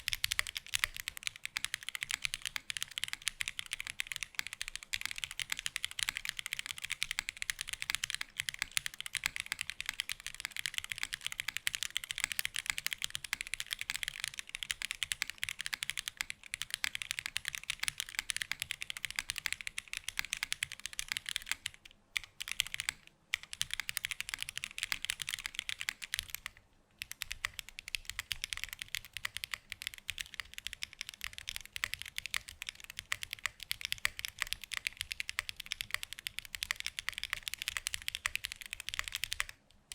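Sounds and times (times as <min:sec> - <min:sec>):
fast typing on mechanical keyboard: 0:00.0 - 0:39.6.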